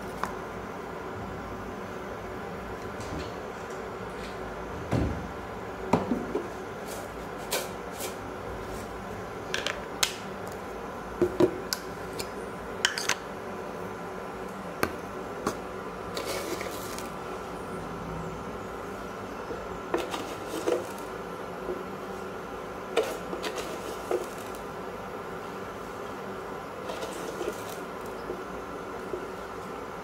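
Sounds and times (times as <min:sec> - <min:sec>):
induction cooktop humming: 0:00.0 - 0:30.0.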